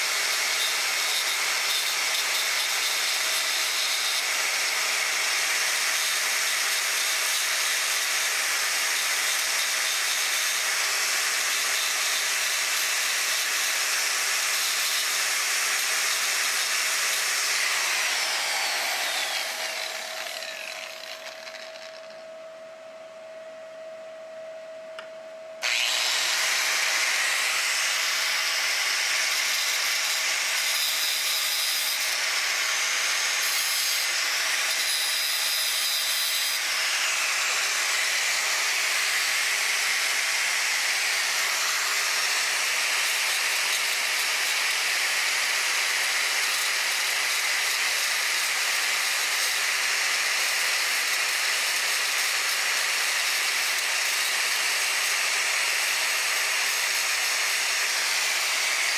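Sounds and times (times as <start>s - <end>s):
angle grinder cutting steel: 0.0s - 22.4s, 25.6s - 58.9s.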